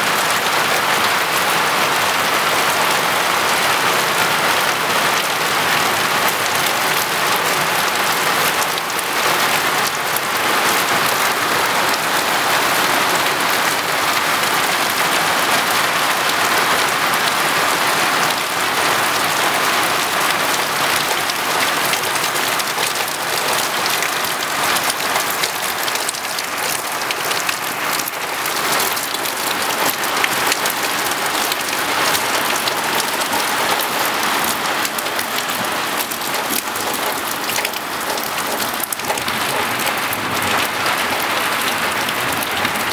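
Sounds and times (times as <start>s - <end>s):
heavy rain pelting down: 0.0s - 42.9s.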